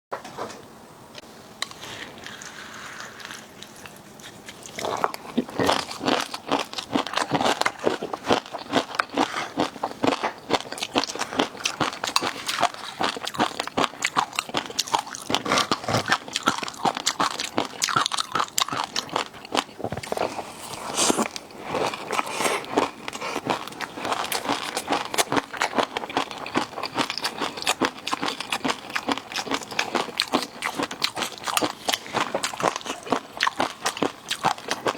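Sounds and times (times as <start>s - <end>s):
person crunching seafood: 1.6s - 34.9s.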